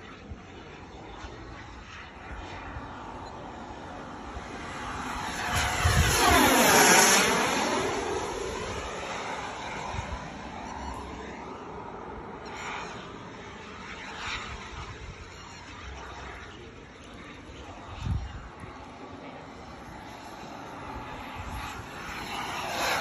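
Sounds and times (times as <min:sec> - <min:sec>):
model jet turbine whine passing: 0:00.0 - 0:23.0.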